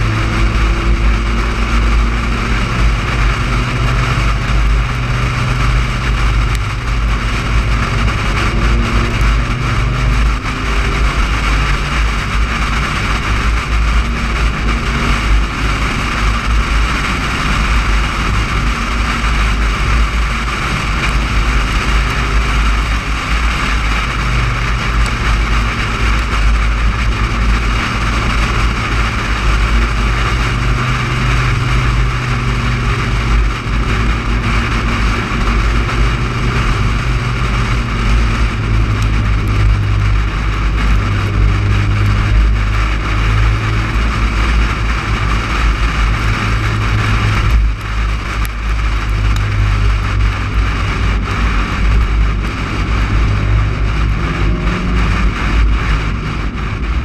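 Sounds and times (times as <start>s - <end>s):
car engine humming: 0.0s - 57.0s
road noise: 0.0s - 57.0s
wind rumble on microphone: 0.0s - 57.0s.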